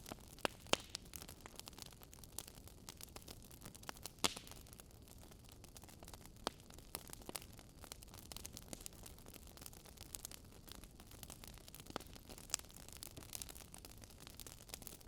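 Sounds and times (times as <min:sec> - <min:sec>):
burning logs crackling: 0:00.0 - 0:15.0.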